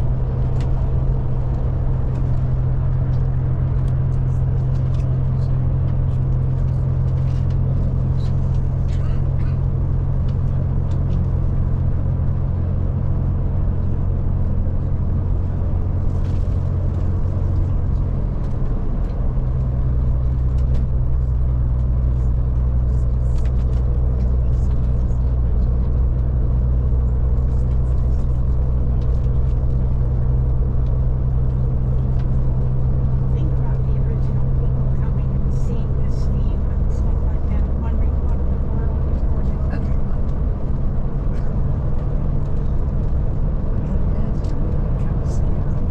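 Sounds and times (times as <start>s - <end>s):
coach engine drone: 0.0s - 45.9s
tyre and road noise: 0.0s - 45.9s.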